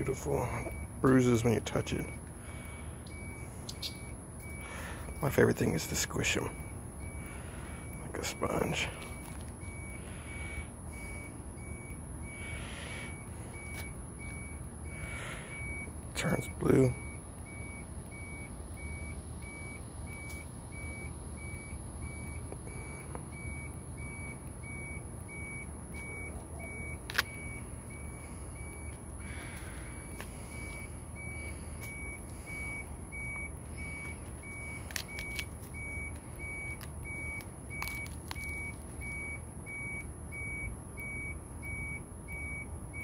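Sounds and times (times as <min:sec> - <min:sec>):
low engine rumble: 0:00.0 - 0:43.0
truck backup alarm beeping: 0:00.0 - 0:43.0.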